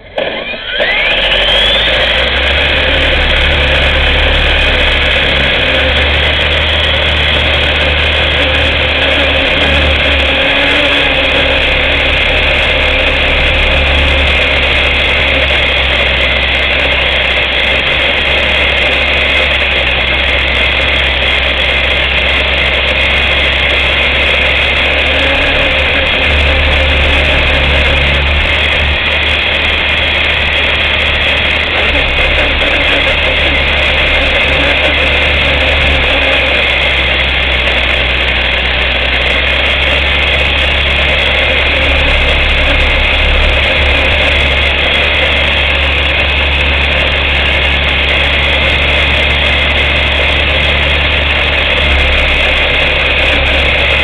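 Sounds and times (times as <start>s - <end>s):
small propeller motor whining: 0.0s - 54.0s.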